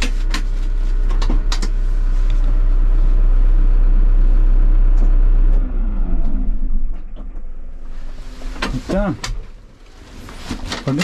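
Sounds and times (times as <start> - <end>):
excavator engine rumbling: 0.0 - 11.0.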